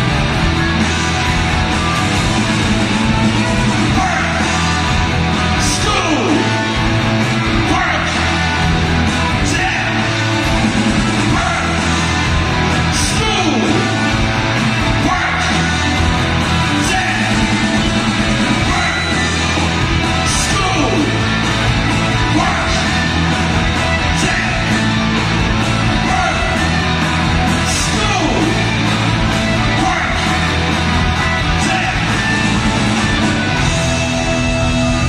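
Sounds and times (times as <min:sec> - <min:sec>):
rock band playing live: 0:00.0 - 0:35.0.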